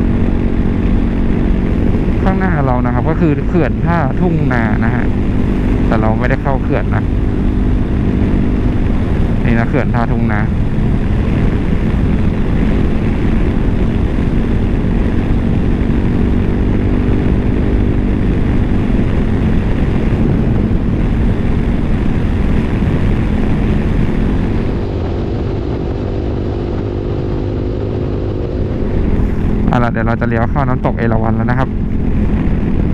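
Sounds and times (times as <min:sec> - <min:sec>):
scooter engine cruising: 0:00.0 - 0:32.9
wind rushing over microphone: 0:00.0 - 0:32.9.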